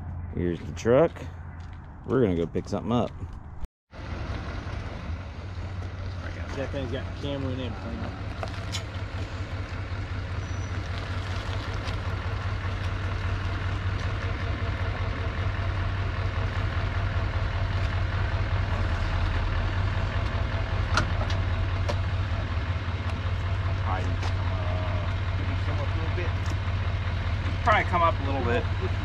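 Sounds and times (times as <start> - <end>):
pickup truck engine running: 4.0 - 29.0.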